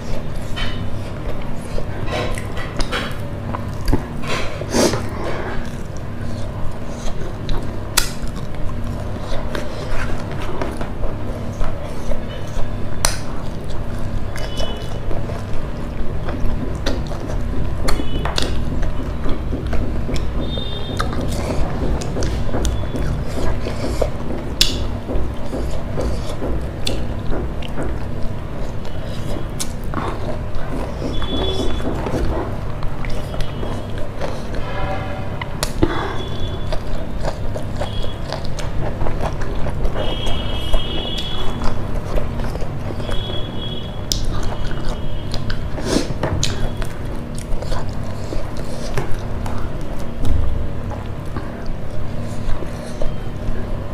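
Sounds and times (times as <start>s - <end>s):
biting food: 0.0s - 34.7s, 35.4s - 53.9s
chewing and mouth noises: 0.0s - 53.9s
steady low hum: 0.0s - 53.9s.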